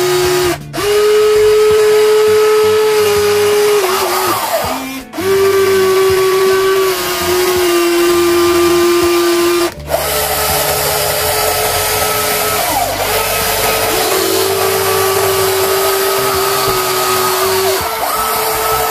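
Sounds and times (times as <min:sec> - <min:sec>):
toy electric motors whining: 0:00.0 - 0:18.9.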